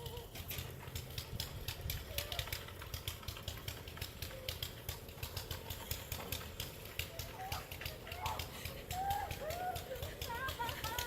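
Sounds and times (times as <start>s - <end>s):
faint distant voices: 0.0s - 11.0s
rapid clicks and crunches: 0.0s - 11.0s.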